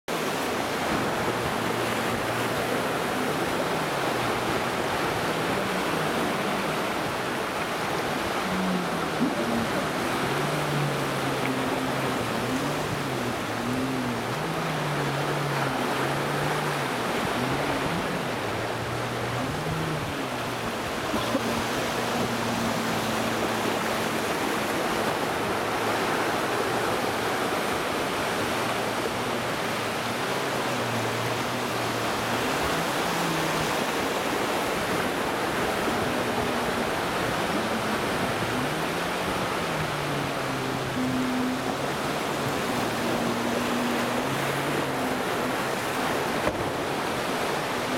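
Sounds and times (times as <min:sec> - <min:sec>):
jet ski engine revving: 0:00.1 - 0:47.9
surf and spray: 0:00.1 - 0:47.9.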